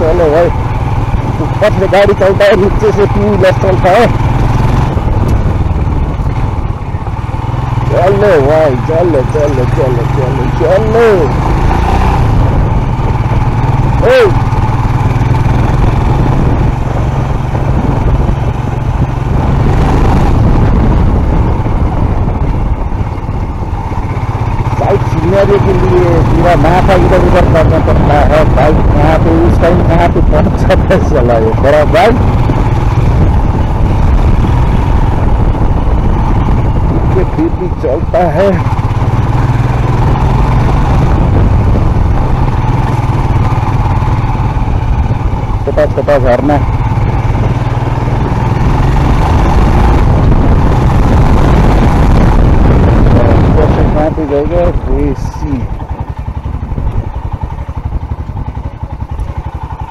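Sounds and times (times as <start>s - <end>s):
motorcycle engine running: 0.0s - 59.9s
road noise rushing: 0.0s - 59.9s.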